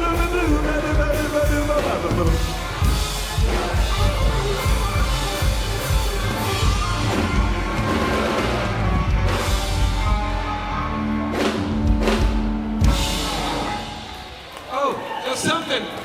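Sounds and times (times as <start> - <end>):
rock band playing: 0.0 - 14.8.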